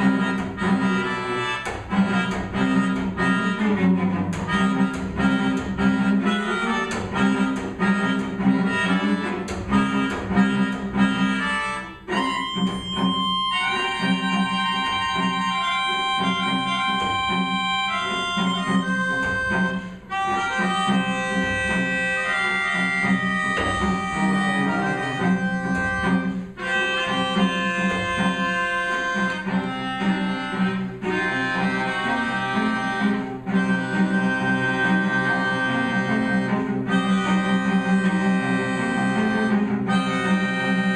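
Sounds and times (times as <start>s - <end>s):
melodica notes and chords: 0.0s - 3.7s, 4.4s - 40.9s
cello playing: 0.0s - 40.9s.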